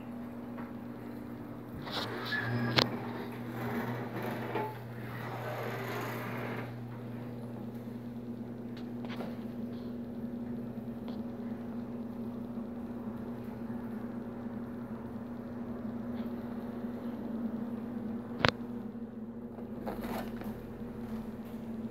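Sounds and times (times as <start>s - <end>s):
aquarium pumps humming: 0.0s - 21.9s.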